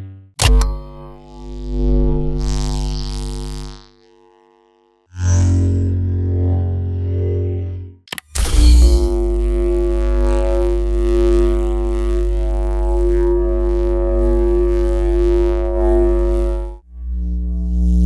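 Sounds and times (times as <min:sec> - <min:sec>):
lower hum: 0:00.4 - 0:04.4, 0:05.4 - 0:18.0
lightsaber buzzing hum: 0:00.4 - 0:06.3, 0:08.1 - 0:18.0.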